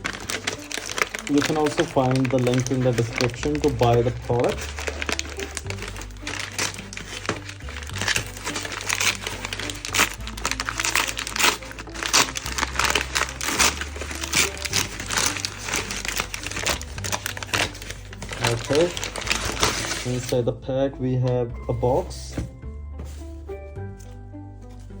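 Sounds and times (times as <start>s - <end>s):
packaging crinkling and rustling: 0.0s - 20.4s
background music with bass line: 0.0s - 25.0s.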